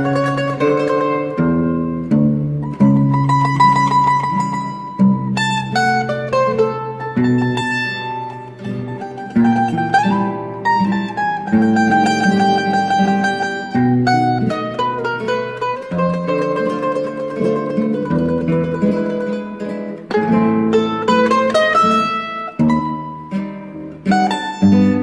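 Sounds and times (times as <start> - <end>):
acoustic guitar accompaniment: 0.0 - 25.0
mandolin plucking a melody: 0.0 - 25.0.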